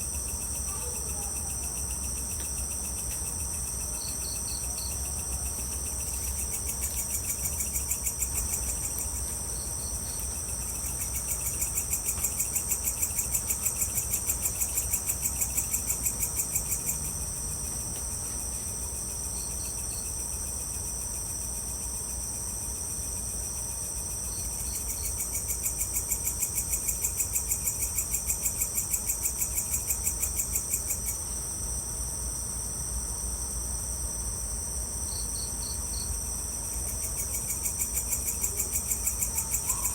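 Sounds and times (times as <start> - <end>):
crickets and insects buzzing: 0.0 - 39.9
pulsing insect trill: 0.0 - 39.9.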